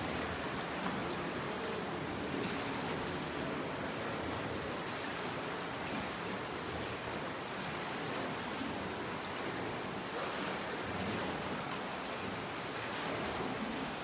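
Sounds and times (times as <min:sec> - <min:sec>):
water splashing around a boat: 0:00.0 - 0:14.0.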